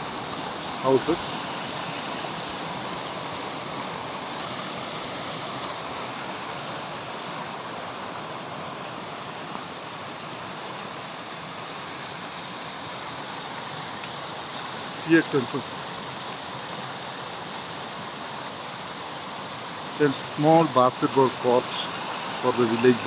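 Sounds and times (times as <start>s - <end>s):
fast-flowing stream: 0.0s - 23.0s.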